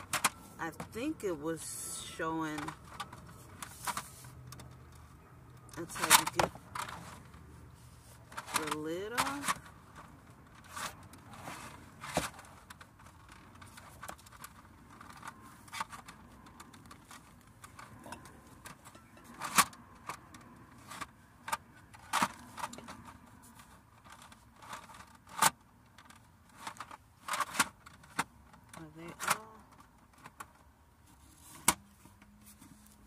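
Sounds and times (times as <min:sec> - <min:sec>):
hard plastic clicks and scrapes: 0:00.0 - 0:01.0, 0:02.4 - 0:33.0.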